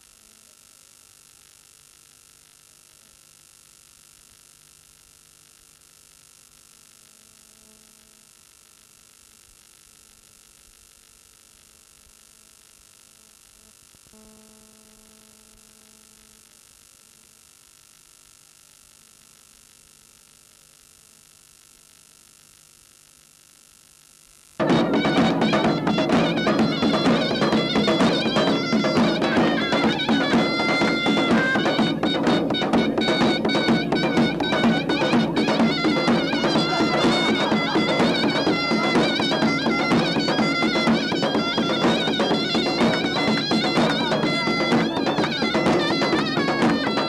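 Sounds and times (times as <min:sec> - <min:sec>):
mains hum and hiss: 0:00.0 - 0:47.0.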